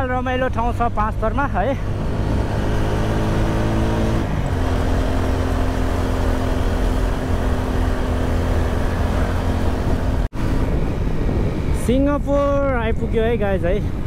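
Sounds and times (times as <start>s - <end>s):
vehicle engine running: 0.0s - 11.6s
road and wind noise: 0.0s - 14.0s.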